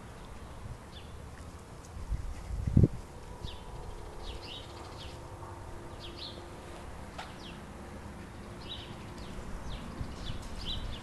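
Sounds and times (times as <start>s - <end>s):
birds chirping: 0.0s - 1.6s, 3.3s - 11.0s.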